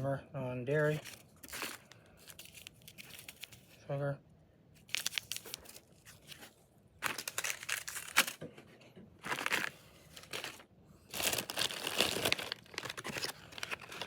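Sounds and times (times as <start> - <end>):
plastic packets crinkling: 0.8 - 3.8, 4.8 - 8.4, 9.2 - 14.0.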